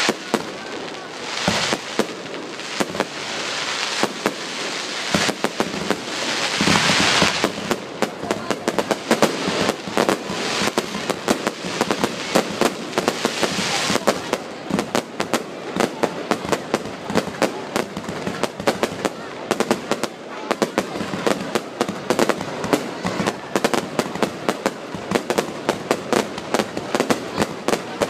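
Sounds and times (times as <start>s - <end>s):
fireworks bangs and crackling pops: 0.0s - 28.0s
fireworks hiss: 0.0s - 28.0s.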